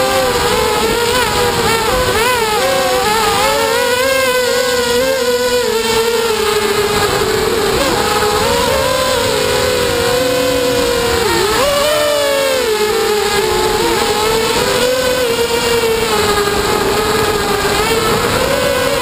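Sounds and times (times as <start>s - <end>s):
drone motors whining: 0.0s - 19.0s
wind noise on microphone: 0.0s - 19.0s.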